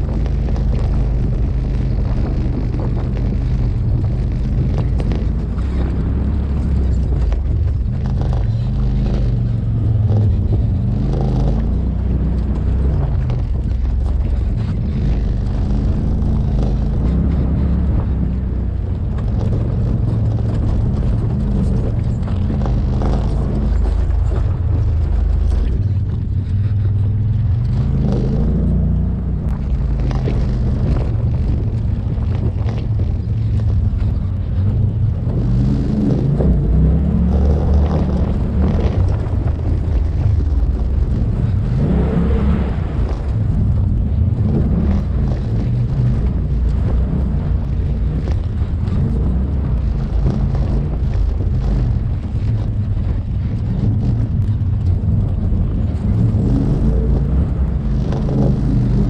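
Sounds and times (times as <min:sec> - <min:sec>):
off-road vehicle engine driving: 0:00.0 - 0:59.0
wind buffeting microphone: 0:00.0 - 0:59.0.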